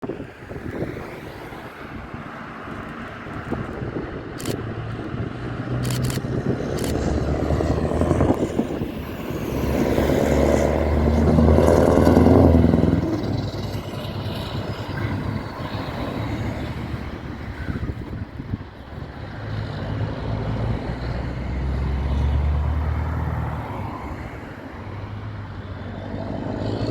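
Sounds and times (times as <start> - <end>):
heavy truck passing by: 0.1 - 26.9.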